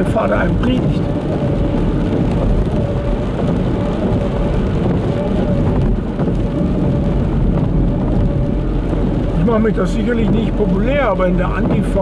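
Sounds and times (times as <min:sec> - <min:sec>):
loud rumbling: 0:00.0 - 0:12.0.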